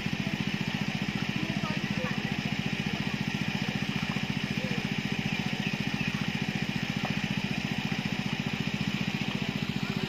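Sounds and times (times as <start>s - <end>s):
small engine chugging: 0.0s - 10.0s.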